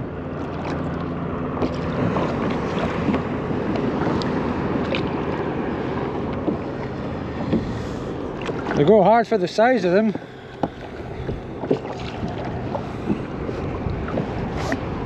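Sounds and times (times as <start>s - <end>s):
water washing around kayak: 0.0s - 15.0s
wind buffeting microphone: 0.0s - 15.0s.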